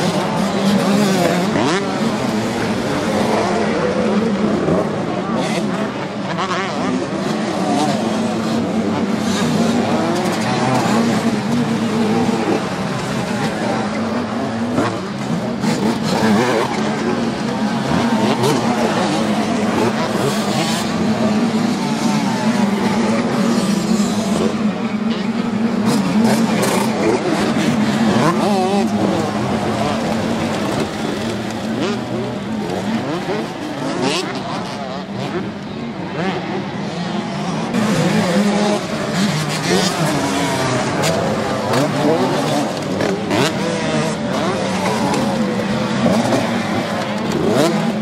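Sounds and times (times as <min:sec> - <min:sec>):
motocross bike engines revving: 0:00.0 - 0:48.0.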